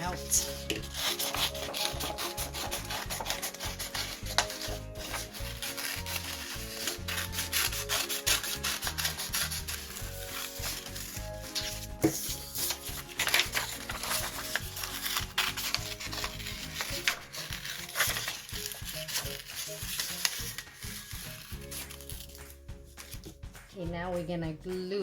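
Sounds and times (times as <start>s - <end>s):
scissors cutting paper: 0.0s - 23.4s.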